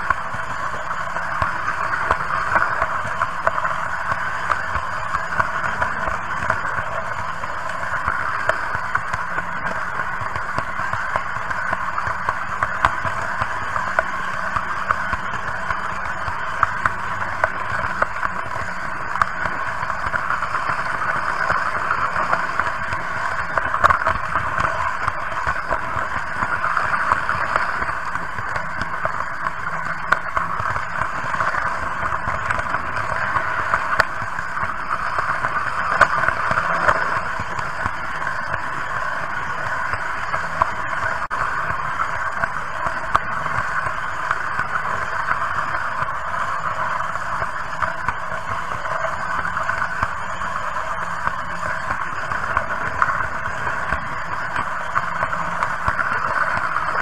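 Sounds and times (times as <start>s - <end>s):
small track clicks: 0.0s - 57.0s.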